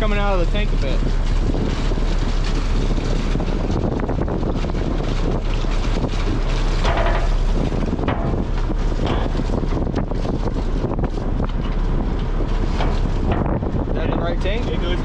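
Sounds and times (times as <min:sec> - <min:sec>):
truck engine rumbling: 0:00.0 - 0:15.0
wind buffeting microphone: 0:00.0 - 0:15.0.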